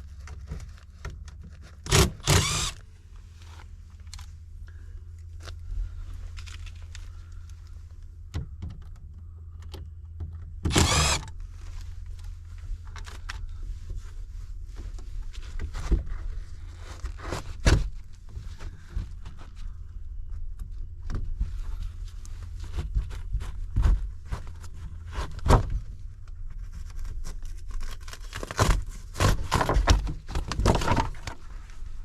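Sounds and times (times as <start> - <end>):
vehicle rumble from inside: 2.7 - 29.1.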